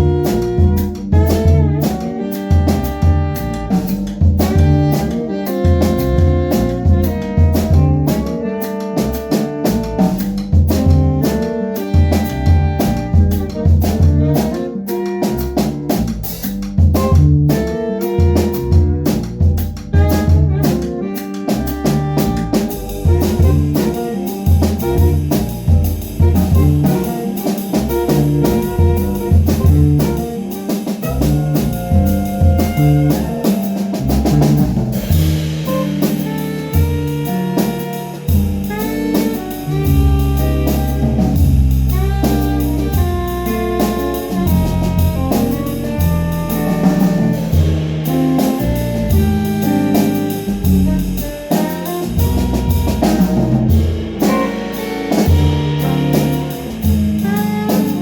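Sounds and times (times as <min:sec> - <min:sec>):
drum kit: 0:00.0 - 0:58.0
saxophone melody: 0:00.0 - 0:58.0
walking bass line: 0:00.0 - 0:58.0.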